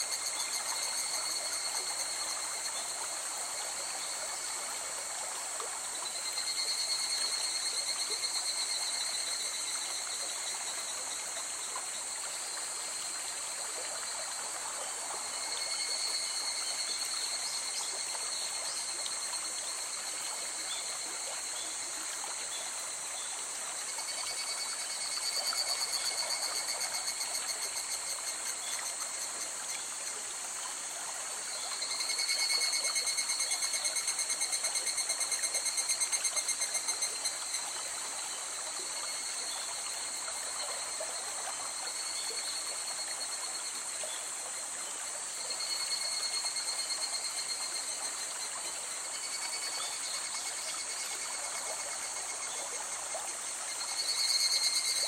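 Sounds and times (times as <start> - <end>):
insects trilling: 0.0 - 5.2, 5.9 - 55.0.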